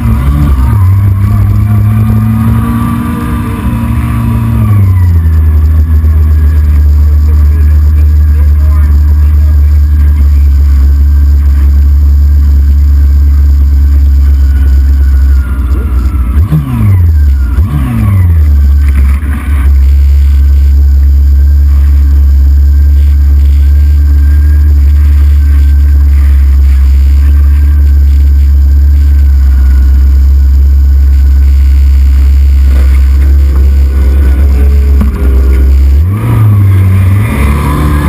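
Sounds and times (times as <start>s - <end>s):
racing motorcycle engine: 0.0s - 38.0s.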